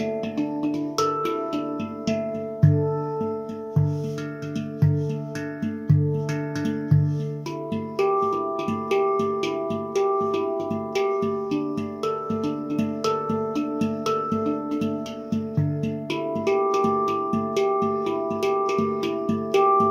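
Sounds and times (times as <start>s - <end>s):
handpan played with fingers: 0.0s - 19.9s.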